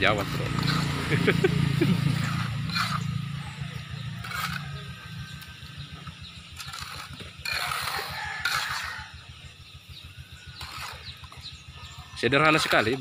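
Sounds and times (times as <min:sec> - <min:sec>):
low throbbing hum: 0:00.0 - 0:13.0
trowel scraping wet mortar: 0:00.0 - 0:13.0.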